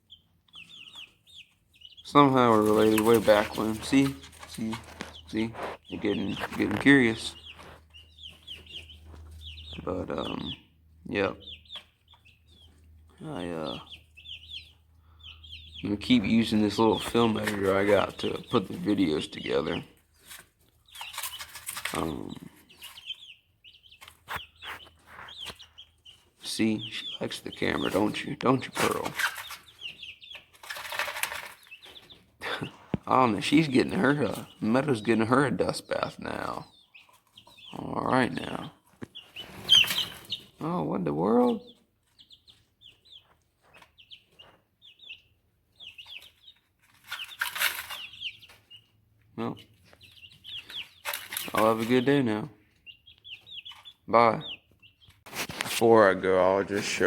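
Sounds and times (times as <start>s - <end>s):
chicks cheeping: 0.0s - 57.0s.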